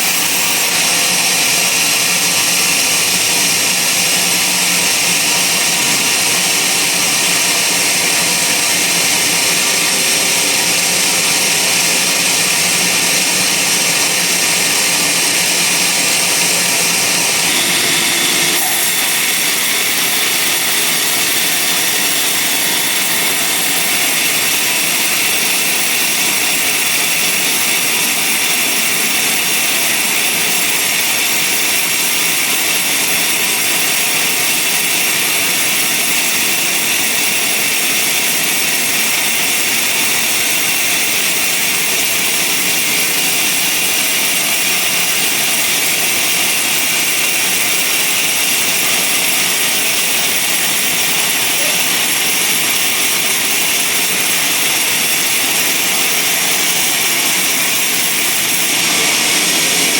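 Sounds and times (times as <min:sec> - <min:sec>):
band saw cutting through log: 0:00.0 - 0:59.9.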